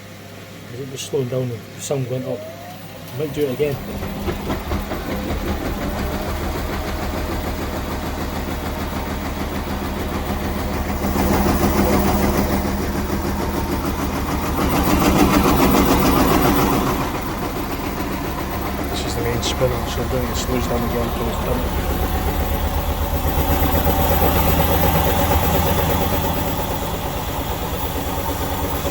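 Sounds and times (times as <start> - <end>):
washing machine drum spinning: 2.4 - 28.9.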